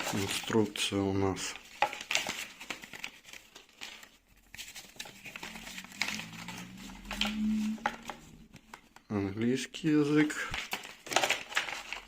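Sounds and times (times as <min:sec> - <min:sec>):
paper rustling and crinkling: 0:00.0 - 0:09.0, 0:10.1 - 0:12.0.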